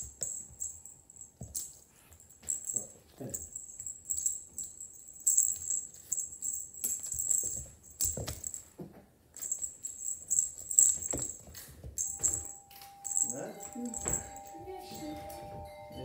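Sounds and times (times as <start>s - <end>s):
cat toy jingling and rattling: 0.0s - 16.0s.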